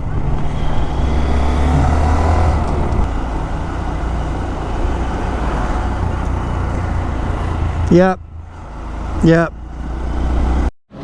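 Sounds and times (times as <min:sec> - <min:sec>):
road and wind noise: 0:00.0 - 0:11.0
vehicle engine drone: 0:00.0 - 0:11.0.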